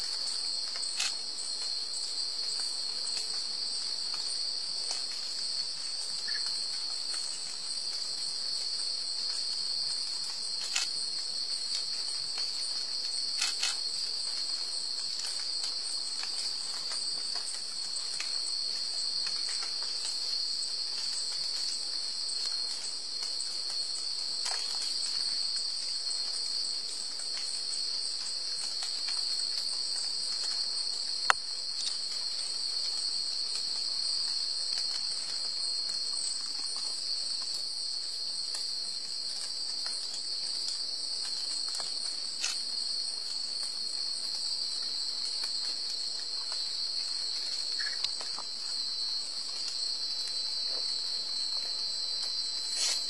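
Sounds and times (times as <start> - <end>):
insect chorus trilling: 0.0 - 53.0.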